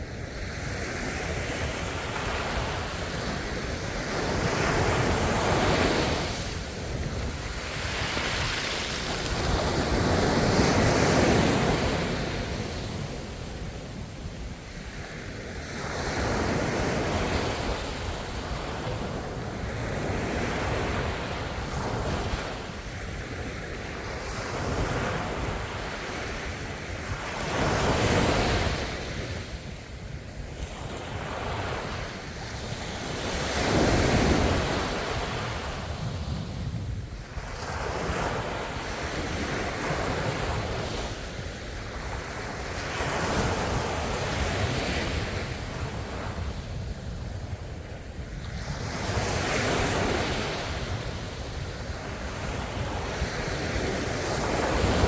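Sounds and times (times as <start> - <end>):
ocean waves washing on shore: 0.0 - 55.0.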